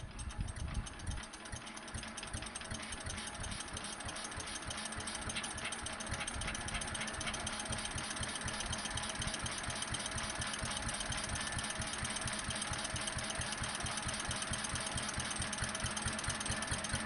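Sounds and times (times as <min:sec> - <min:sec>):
stationary engine running: 0:00.0 - 0:17.0.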